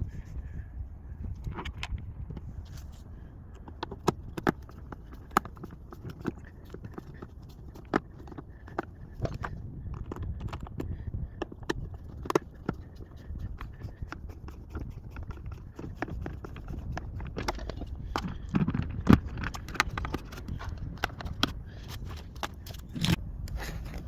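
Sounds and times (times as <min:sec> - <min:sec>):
objects being handled: 0:01.3 - 0:24.0.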